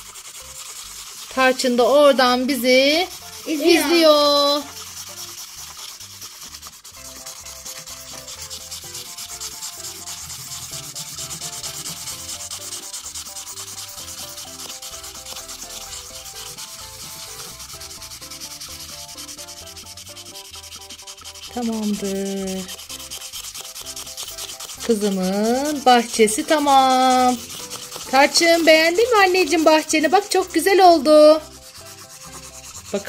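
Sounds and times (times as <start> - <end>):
marker scratching on cardboard: 0.0 - 33.0.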